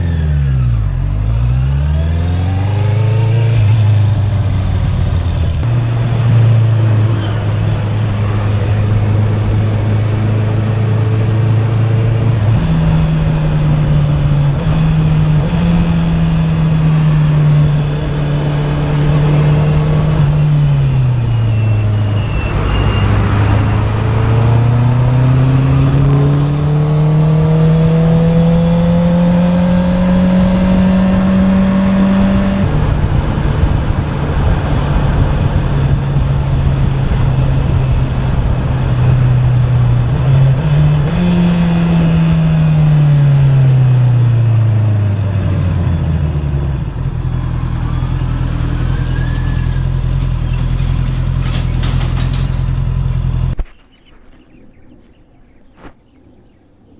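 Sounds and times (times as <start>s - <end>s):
motorcycle engine revving: 0.0s - 53.7s.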